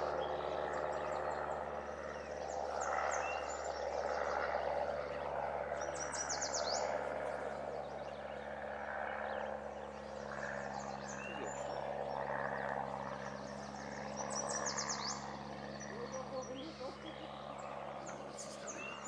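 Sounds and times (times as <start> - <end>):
birds chirping: 0.0 - 19.0
outdoor background noise: 0.0 - 19.0.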